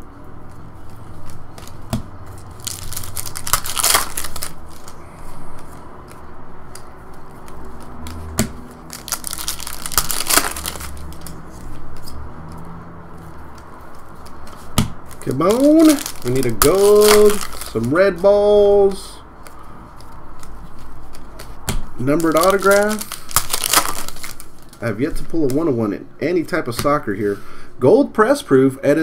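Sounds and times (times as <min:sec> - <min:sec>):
cards shuffling and rustling: 0:00.2 - 0:25.7.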